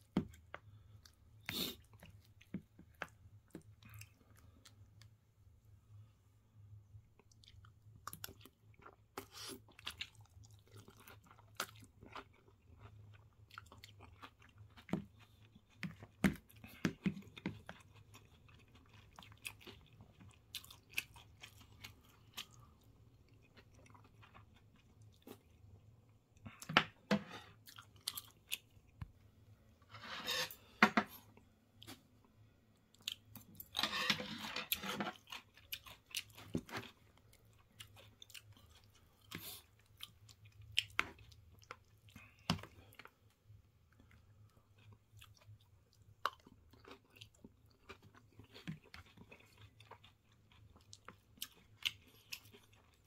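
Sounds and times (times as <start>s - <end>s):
chewing and crunching food: 0.0s - 53.0s.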